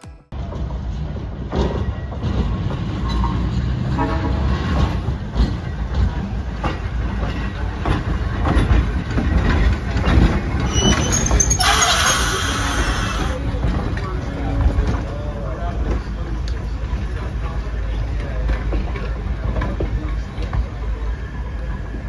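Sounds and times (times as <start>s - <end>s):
streetcar wheels rumbling on rail: 0.3s - 22.0s.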